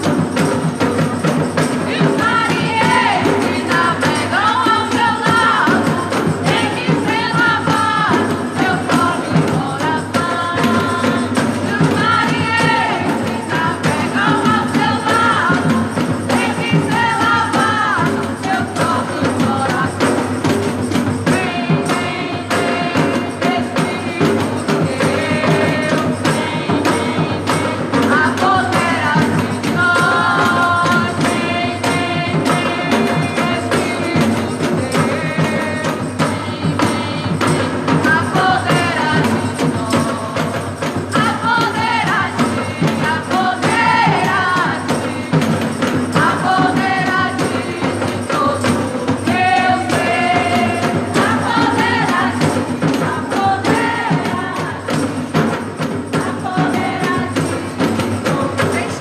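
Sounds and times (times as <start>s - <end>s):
people singing: 0.0s - 59.0s
tambourine: 0.0s - 59.0s
worship band playing: 0.0s - 59.0s.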